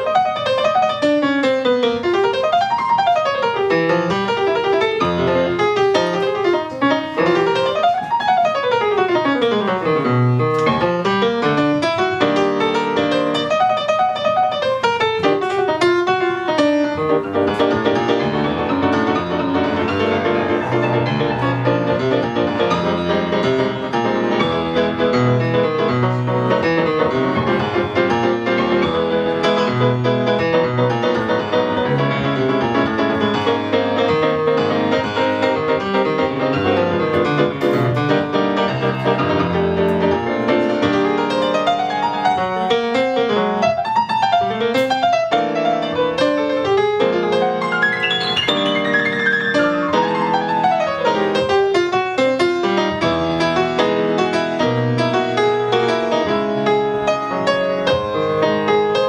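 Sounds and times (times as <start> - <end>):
jazz piano solo: 0.0 - 59.0.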